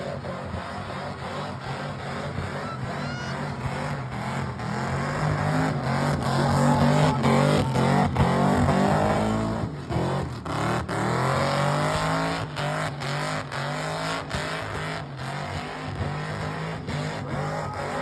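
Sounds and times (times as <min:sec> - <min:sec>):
car engine revving high: 0:00.0 - 0:18.0.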